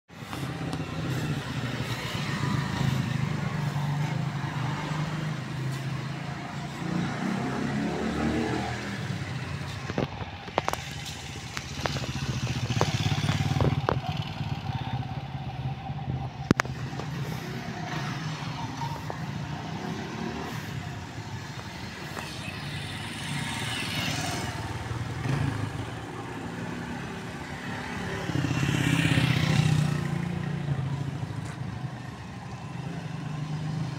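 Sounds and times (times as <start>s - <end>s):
motorcycle engines passing: 0.1s - 33.9s.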